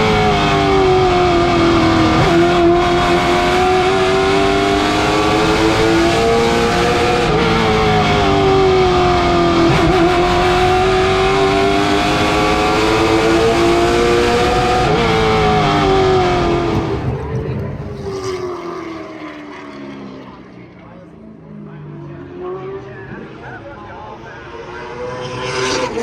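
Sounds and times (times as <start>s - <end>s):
race car engine at speed: 0.0s - 26.0s.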